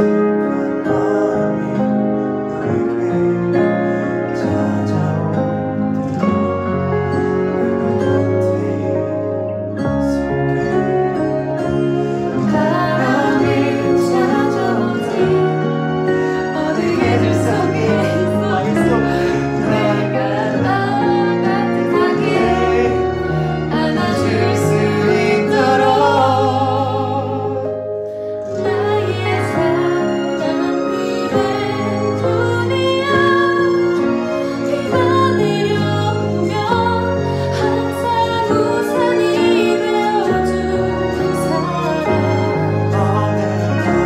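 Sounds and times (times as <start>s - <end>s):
man and woman singing duet: 0.0s - 6.6s, 7.6s - 44.0s
slow ballad backing track: 0.0s - 44.0s.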